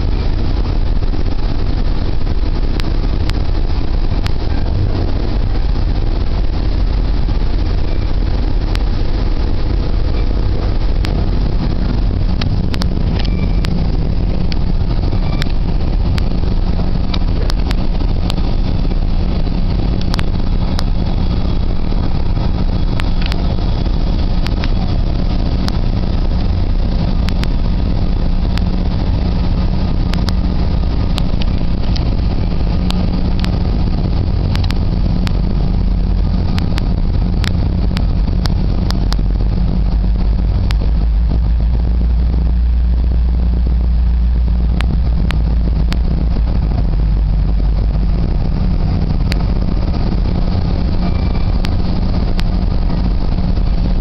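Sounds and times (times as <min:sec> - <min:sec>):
sharp track clicks: 0:00.0 - 0:54.0
train rumbling on track: 0:00.0 - 0:54.0.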